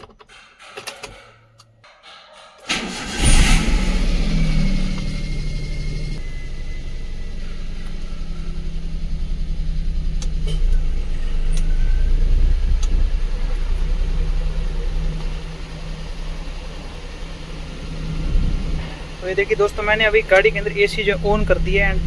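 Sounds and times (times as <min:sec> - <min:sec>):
car engine idling: 0:02.7 - 0:22.0.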